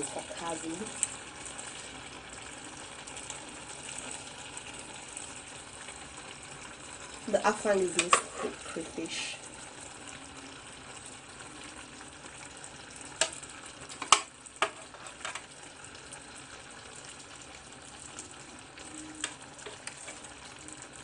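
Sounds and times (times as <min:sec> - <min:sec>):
soup sizzling in pot: 0:00.0 - 0:21.0.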